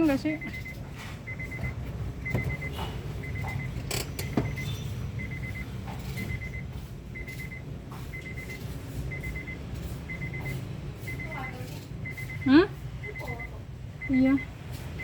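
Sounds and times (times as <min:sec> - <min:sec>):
electronic warning beeper pips: 0:00.2 - 0:14.5.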